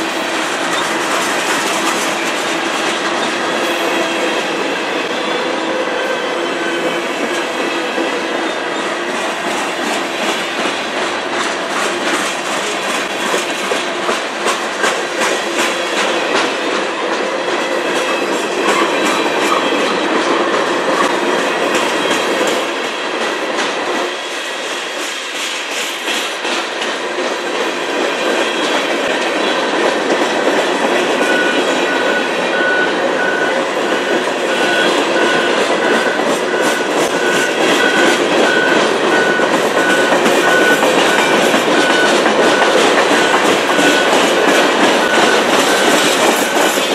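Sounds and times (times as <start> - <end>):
train wheels clicking over rail joints: 0.0 - 46.9.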